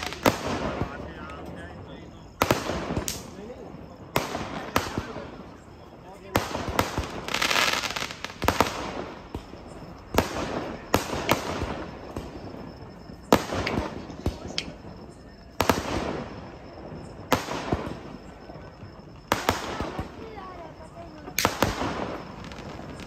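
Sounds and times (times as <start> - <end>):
firework bangs: 0.0 - 23.0
firework crackle and hiss: 0.0 - 23.0.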